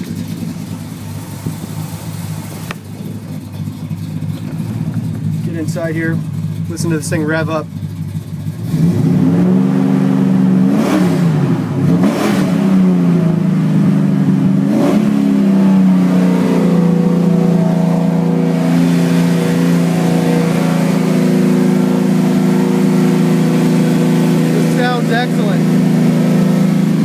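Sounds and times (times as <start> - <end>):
car engine idling: 0.0 - 27.0
car engine revving: 0.0 - 27.0.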